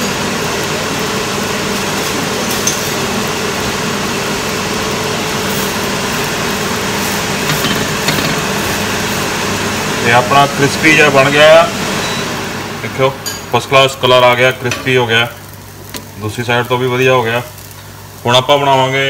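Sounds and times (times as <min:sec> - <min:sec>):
mechanical whirring hum: 0:00.0 - 0:19.0.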